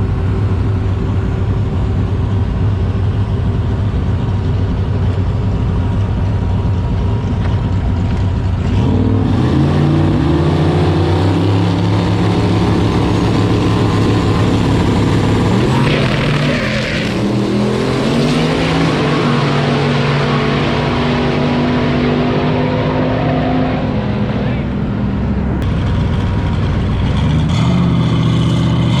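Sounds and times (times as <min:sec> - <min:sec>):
turbocharged car engine revving: 0:00.0 - 0:29.0.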